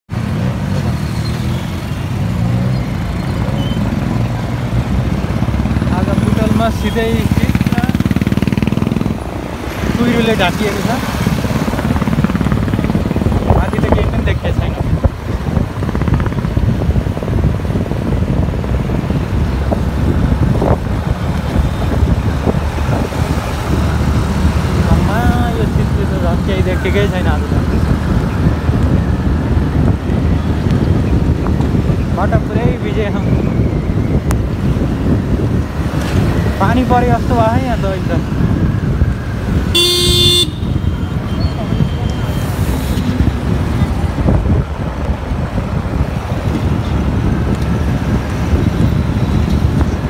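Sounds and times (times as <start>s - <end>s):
road traffic rumble: 0.1s - 50.0s
wind buffeting microphone: 3.9s - 50.0s.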